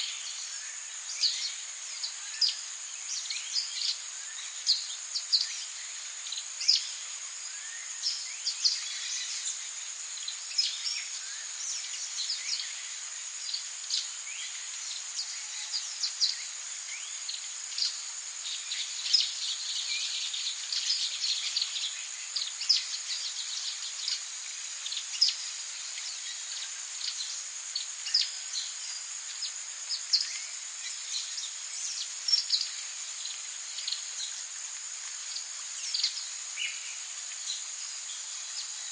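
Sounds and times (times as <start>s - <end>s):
faint hiss: 0.0s - 38.9s.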